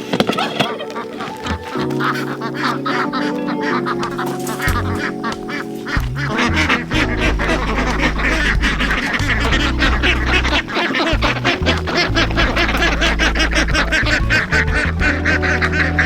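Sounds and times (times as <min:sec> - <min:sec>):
ducks quacking: 0:00.0 - 0:16.0
background music with bass line: 0:01.9 - 0:16.0.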